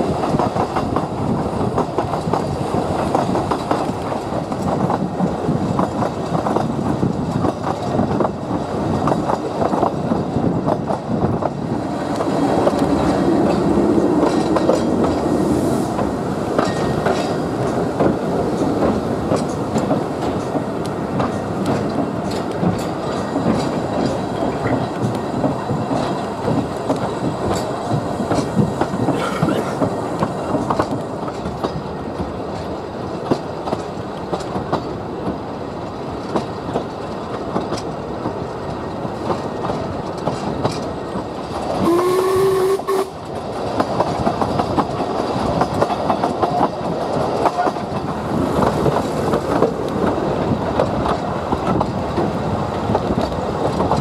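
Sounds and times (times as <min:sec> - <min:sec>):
wheels clicking over rail joints: 0:00.0 - 0:41.9, 0:43.1 - 0:54.0
steam train rumbling: 0:00.0 - 0:54.0.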